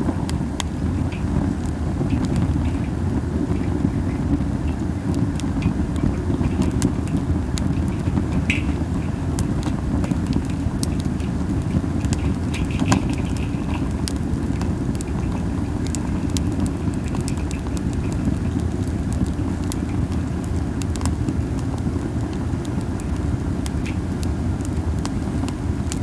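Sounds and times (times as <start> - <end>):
campfire crackling and popping: 0.0 - 26.0
wind rumble on microphone: 0.0 - 26.0.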